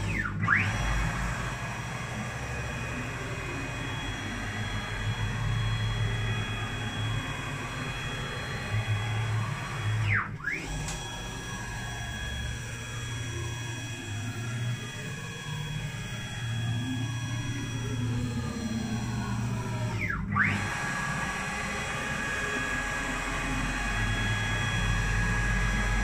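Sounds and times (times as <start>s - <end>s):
stepper motors whining: 0.0s - 26.0s.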